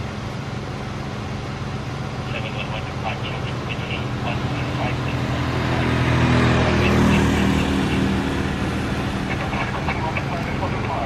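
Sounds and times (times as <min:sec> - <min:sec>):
vehicle engine passing: 0:01.1 - 0:11.0.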